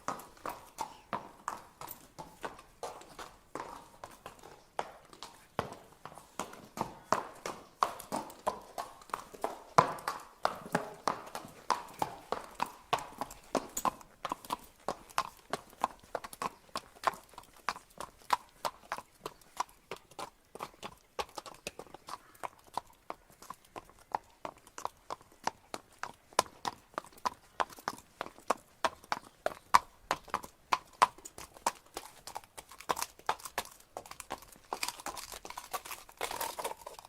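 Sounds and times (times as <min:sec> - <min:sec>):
horse hooves clip-clopping: 0:00.0 - 0:37.0.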